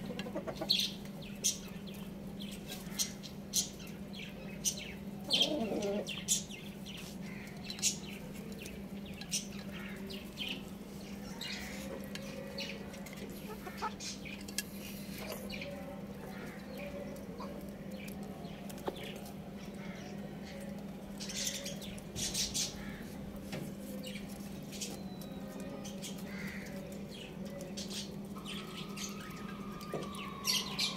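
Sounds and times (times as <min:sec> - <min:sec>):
chickens chirping and clucking: 0:00.0 - 0:30.9
steady low hum: 0:00.0 - 0:30.9.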